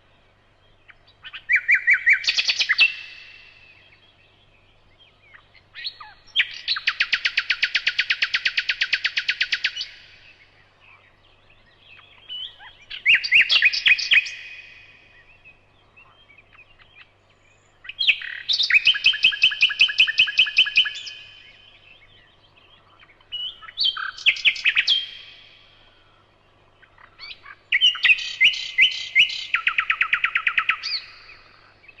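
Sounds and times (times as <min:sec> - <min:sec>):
songbird trilling: 0:00.8 - 0:32.0.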